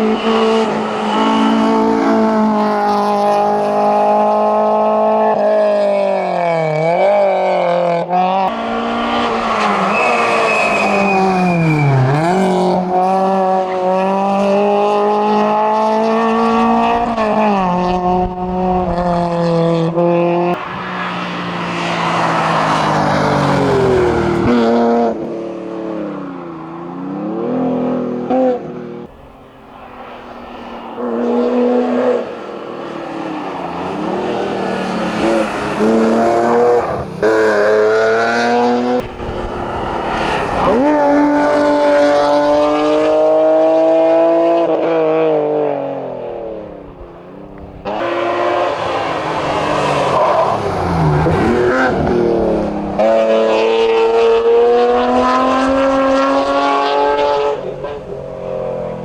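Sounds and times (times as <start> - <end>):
race car engine revving hard: 0.0 - 59.0.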